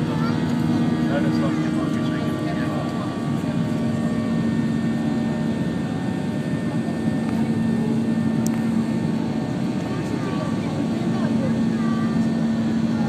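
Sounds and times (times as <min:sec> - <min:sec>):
airliner engine and rushing air: 0:00.0 - 0:13.0.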